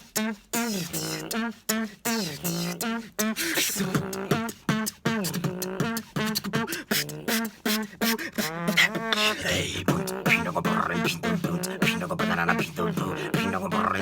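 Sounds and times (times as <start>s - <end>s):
beatboxing drum hits and clicks: 0.0s - 14.0s
sung pitched vocal lines: 0.0s - 14.0s.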